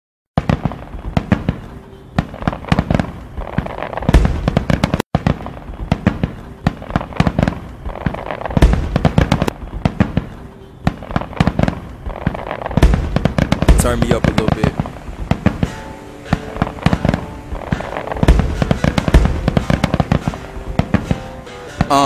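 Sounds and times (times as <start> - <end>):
fireworks crackling pops: 0.4 - 22.0
heavy firework bangs: 0.4 - 22.0.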